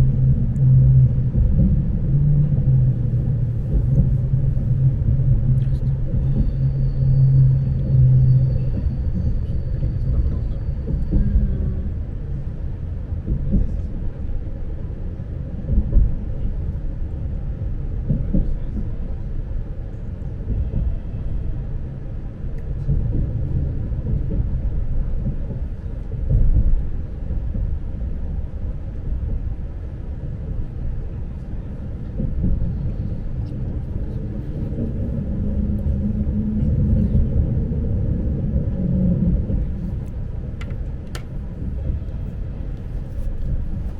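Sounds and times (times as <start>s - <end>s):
electric train rumble: 0.0s - 43.9s.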